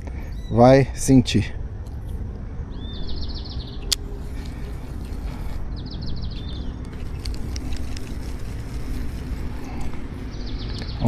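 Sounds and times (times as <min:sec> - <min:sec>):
low outdoor rumble: 0:00.0 - 0:11.0
small bird singing: 0:00.0 - 0:11.0.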